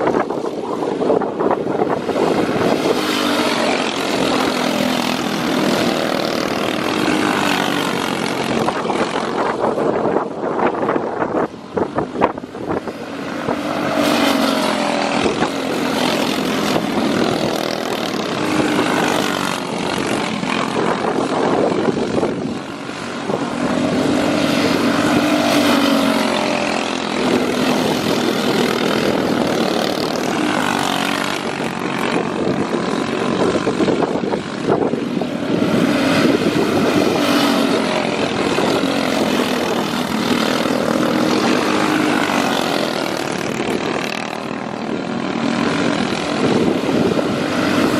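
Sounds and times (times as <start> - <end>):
kart engines racing: 0.0 - 47.9.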